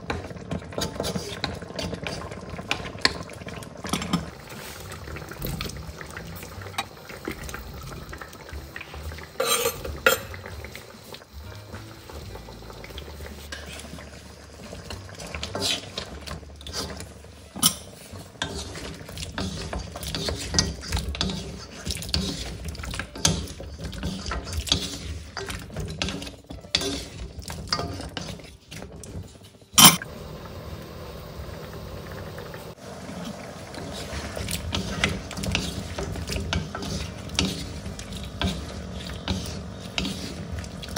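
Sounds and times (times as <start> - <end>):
stew simmering: 0.0 - 40.9
spatulas scraping a wok: 0.6 - 3.2, 3.8 - 30.0, 32.1 - 40.9.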